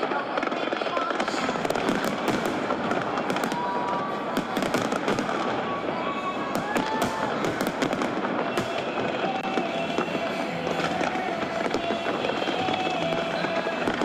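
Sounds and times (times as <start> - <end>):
fireworks crackling and popping: 0.0 - 14.0.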